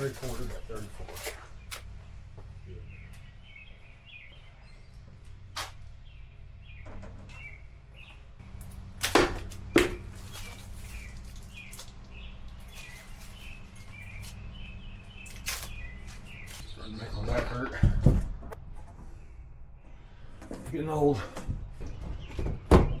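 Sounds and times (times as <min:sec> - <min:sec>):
steady low hum: 0:00.0 - 0:22.2
small birds chirping: 0:00.0 - 0:23.0.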